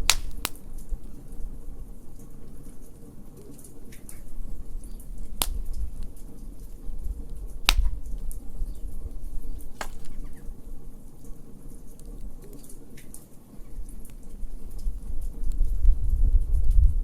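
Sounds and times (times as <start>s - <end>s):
sharp pops of fire: 0.0s - 15.6s
wood fire crackling: 0.0s - 17.0s.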